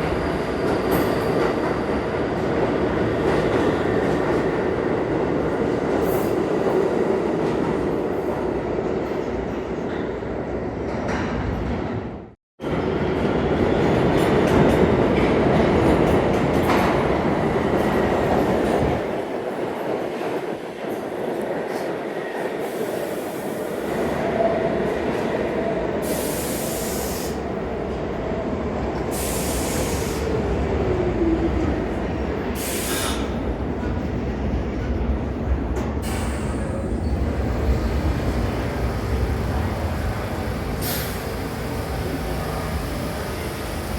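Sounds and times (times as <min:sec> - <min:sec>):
subway train rumbling on rails: 0:00.0 - 0:43.9.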